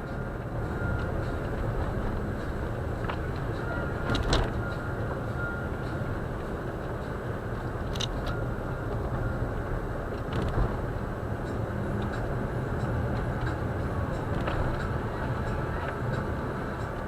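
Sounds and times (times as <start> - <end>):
car engine: 0.0 - 17.0
tyre and road noise: 0.0 - 17.0.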